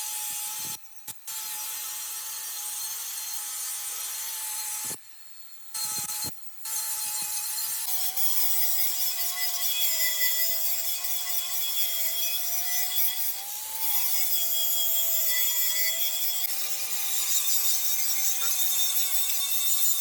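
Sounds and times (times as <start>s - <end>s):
power tool grinding metal: 0.0s - 5.0s, 5.8s - 20.0s.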